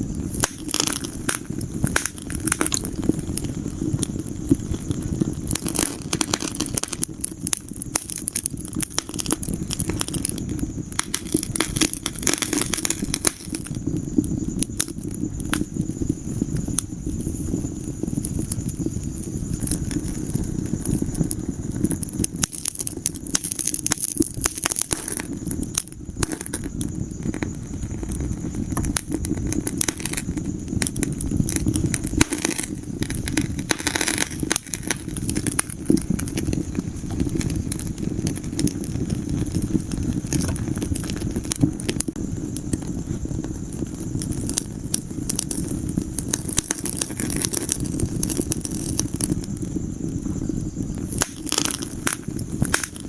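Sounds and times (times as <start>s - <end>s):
crackles and pops of burning logs: 0.0s - 53.0s
low rumble of flames: 0.0s - 53.0s.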